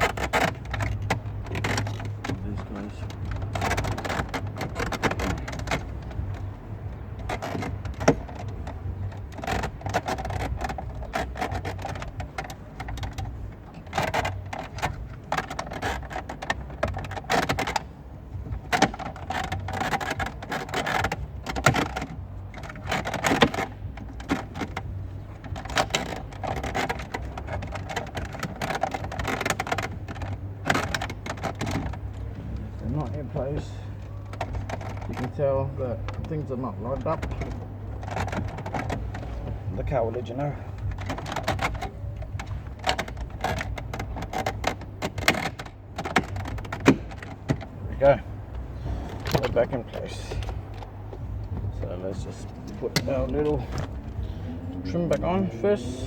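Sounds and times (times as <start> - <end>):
plastic and metal clicking: 0.0 - 56.0.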